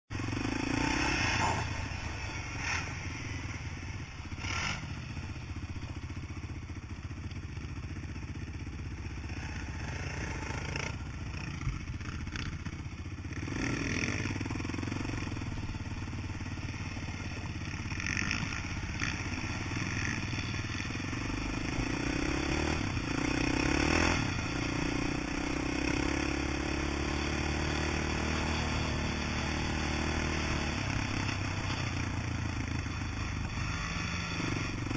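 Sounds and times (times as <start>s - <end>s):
quad bike engine revving: 0.1s - 34.9s.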